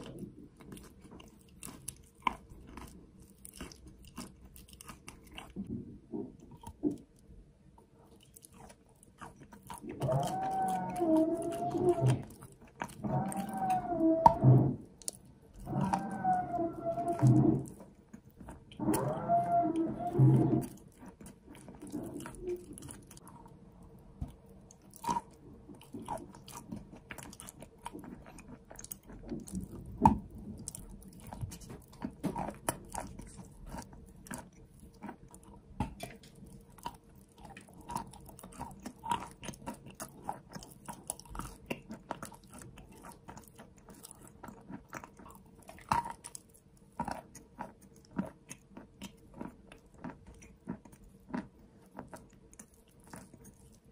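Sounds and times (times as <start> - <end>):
wet chewing: 0.0 - 53.9.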